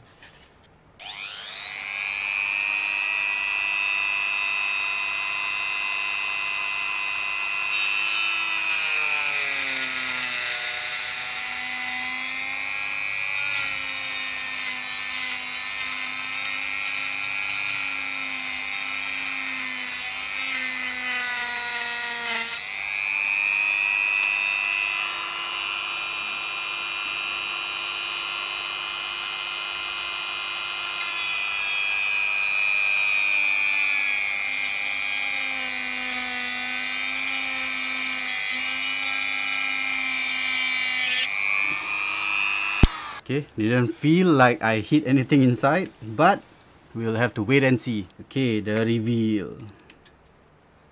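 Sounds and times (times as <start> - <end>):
rotary tool cutting plastic: 1.0 - 43.2.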